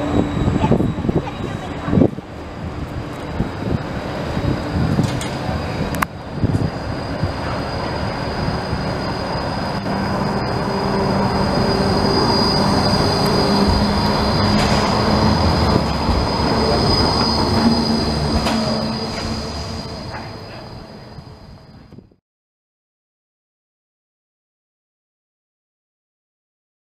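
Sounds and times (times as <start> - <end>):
tram low hum: 0.0 - 22.2
tram wheels squealing on rails: 0.0 - 22.2.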